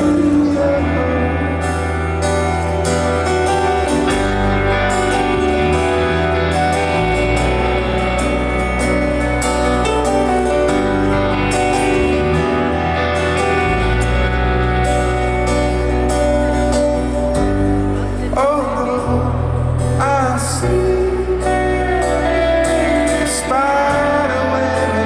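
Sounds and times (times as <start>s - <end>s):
bass line: 0.0s - 25.0s
live band instrumental: 0.0s - 25.0s.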